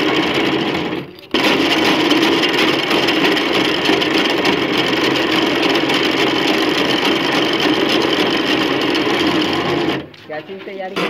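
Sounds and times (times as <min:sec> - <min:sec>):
cotton candy machine motor: 0:00.0 - 0:11.0.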